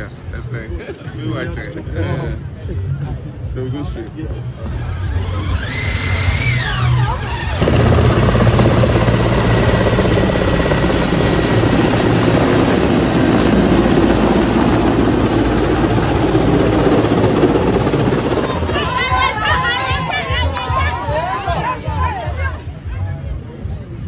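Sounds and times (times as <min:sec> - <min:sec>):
helicopter engine and rotor noise: 0:00.0 - 0:21.0.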